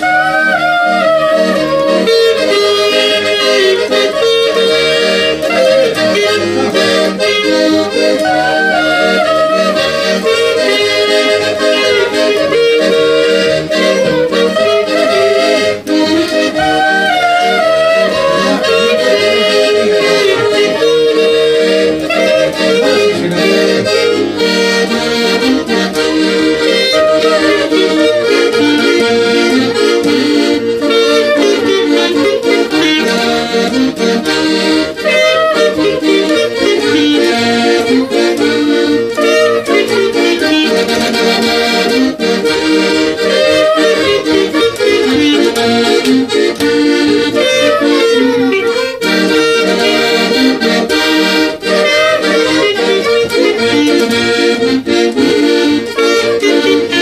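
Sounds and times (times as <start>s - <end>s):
accordion folk music: 0.0s - 57.0s.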